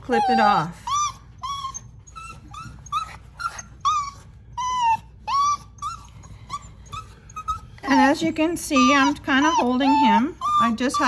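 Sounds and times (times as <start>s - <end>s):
puppy whining: 0.0s - 11.0s.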